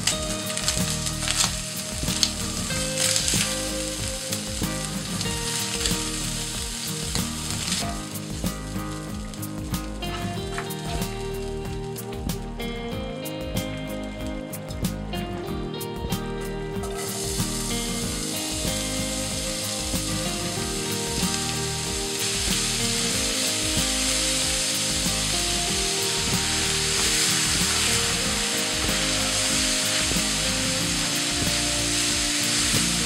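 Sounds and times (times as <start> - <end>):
background music: 0.0 - 33.0
vegetables sizzling in oil: 0.0 - 33.0.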